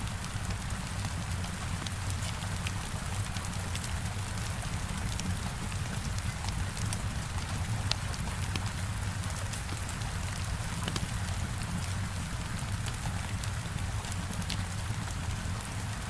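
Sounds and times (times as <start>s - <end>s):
heavy rain on a window: 0.0s - 16.0s
fire crackling: 0.2s - 16.0s.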